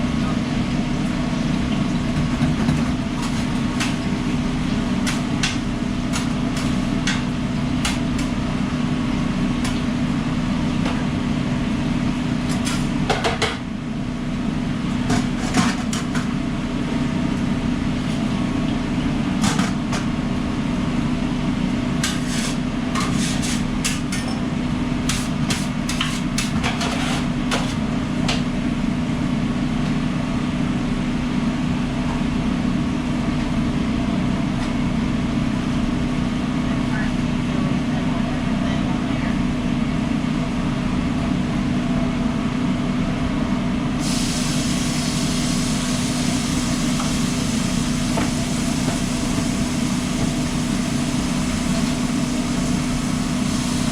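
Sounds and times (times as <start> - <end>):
low machine hum: 0.0 - 53.9.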